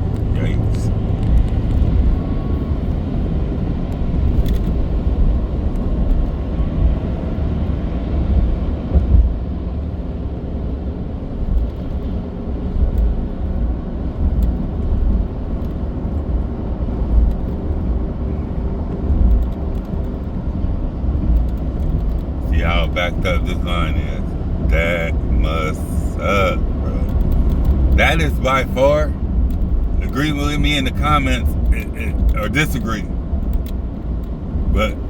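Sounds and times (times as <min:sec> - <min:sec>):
truck engine drone: 0:00.0 - 0:08.8, 0:09.7 - 0:35.0
road noise inside cab: 0:00.0 - 0:35.0.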